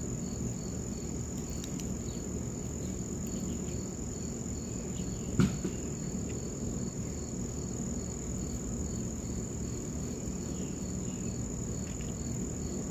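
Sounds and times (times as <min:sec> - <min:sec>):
insect high-pitched trill: 0:00.0 - 0:12.9
quiet insect chirp: 0:00.0 - 0:12.9.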